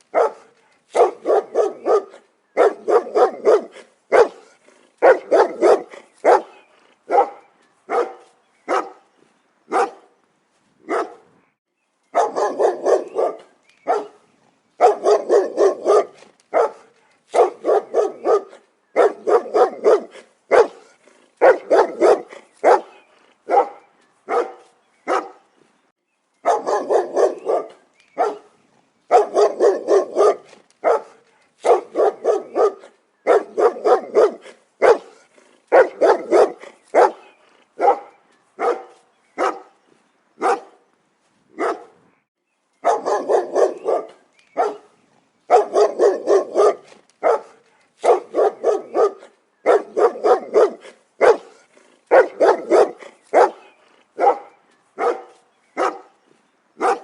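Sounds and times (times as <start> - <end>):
dog barking: 0.1 - 9.0, 9.7 - 10.1, 10.9 - 11.3, 12.2 - 14.2, 14.8 - 25.4, 26.4 - 28.5, 29.1 - 39.8, 40.4 - 40.8, 41.6 - 42.0, 42.8 - 44.9, 45.5 - 56.2, 56.8 - 57.0.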